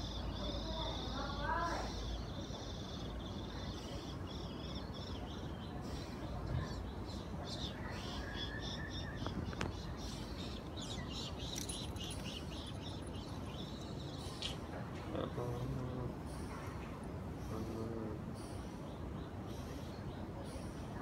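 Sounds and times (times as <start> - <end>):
low background hum: 0.0 - 21.0
small birds chirping: 0.0 - 21.0.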